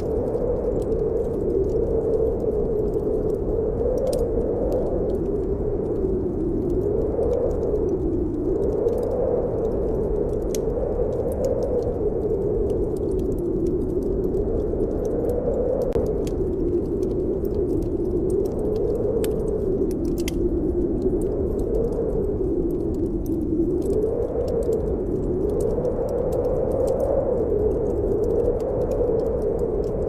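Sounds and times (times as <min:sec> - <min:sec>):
wind howling: 0:00.0 - 0:30.0
wood fire crackling: 0:00.0 - 0:30.0.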